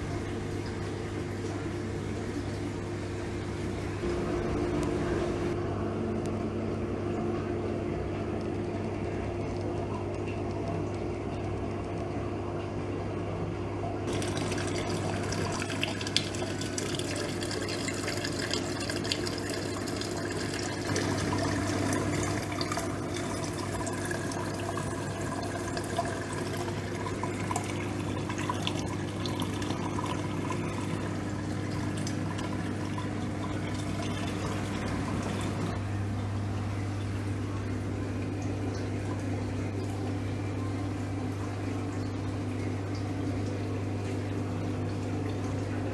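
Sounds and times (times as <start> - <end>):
low pump hum: 0.0 - 45.9.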